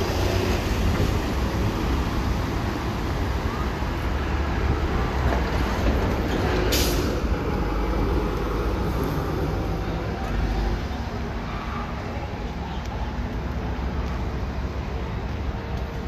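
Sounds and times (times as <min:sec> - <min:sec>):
low rumble of passing vehicles: 0:00.0 - 0:16.0.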